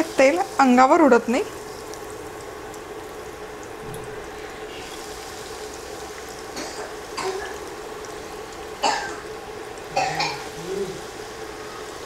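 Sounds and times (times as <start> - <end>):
cutlets sizzling in hot oil: 0.0 - 12.0.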